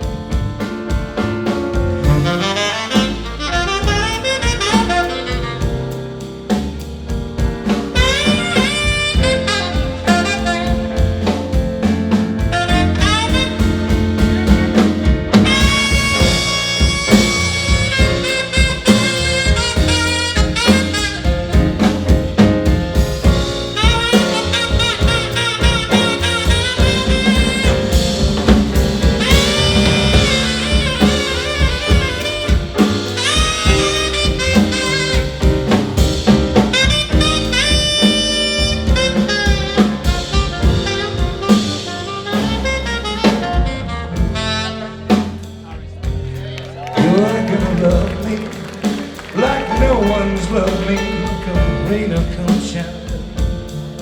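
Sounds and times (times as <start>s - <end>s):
drum kit swing beat: 0.0s - 54.0s
horn solo: 0.0s - 54.0s
walking bass: 0.0s - 54.0s.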